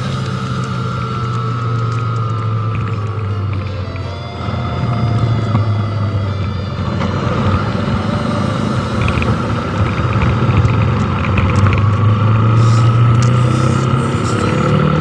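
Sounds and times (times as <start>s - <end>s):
motorcycle engine running: 0.0s - 15.0s
rushing wind noise: 0.0s - 15.0s.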